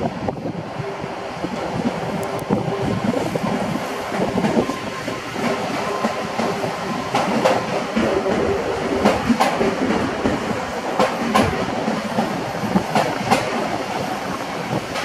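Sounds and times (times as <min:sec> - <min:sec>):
electric train rumbling past: 0:00.0 - 0:15.0
wheels clacking over rail joints: 0:01.7 - 0:15.0.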